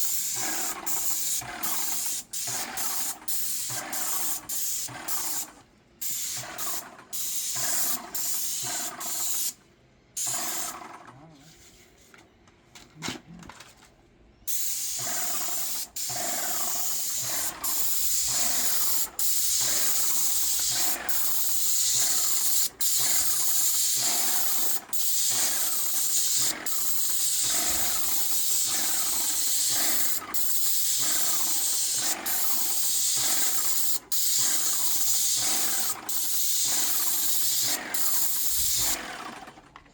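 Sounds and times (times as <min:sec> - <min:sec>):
paint sprayer hissing: 0:00.0 - 0:09.6, 0:10.2 - 0:10.9, 0:14.5 - 0:39.4.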